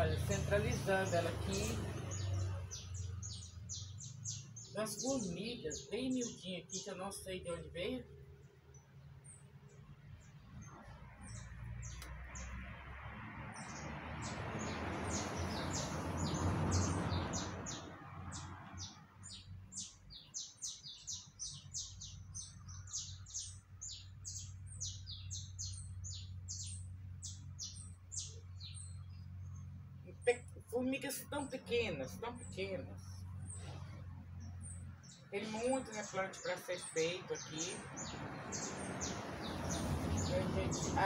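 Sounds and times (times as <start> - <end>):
bird chirping: 0.0 - 41.0.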